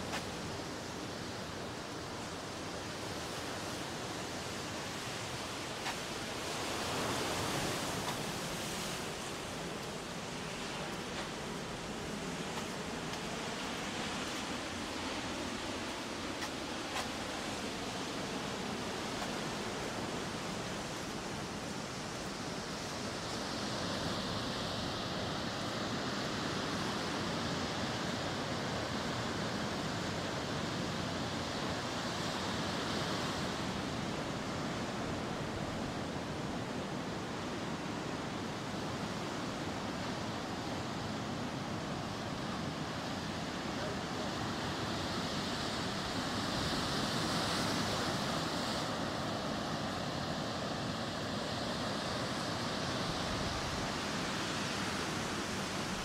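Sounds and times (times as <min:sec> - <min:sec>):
ocean surf washing on shore: 0:00.0 - 0:56.0.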